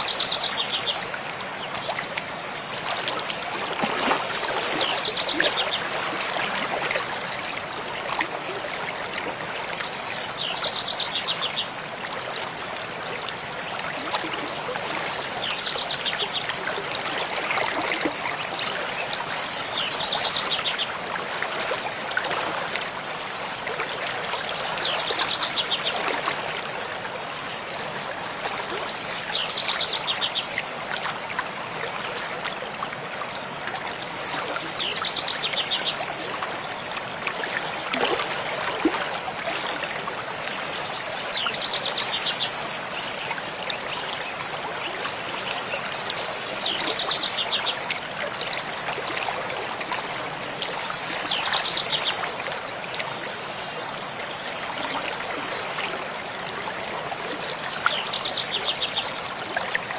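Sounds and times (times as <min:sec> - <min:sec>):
mountain stream flowing: 0:00.0 - 0:59.9.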